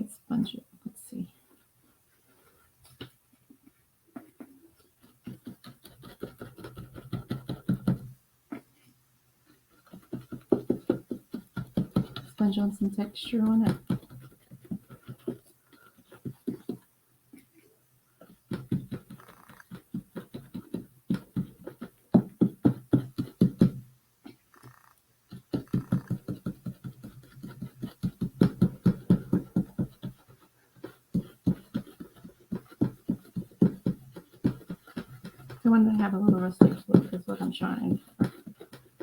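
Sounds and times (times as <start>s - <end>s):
sponge dabbing on textured paint: 1.4s - 39.0s.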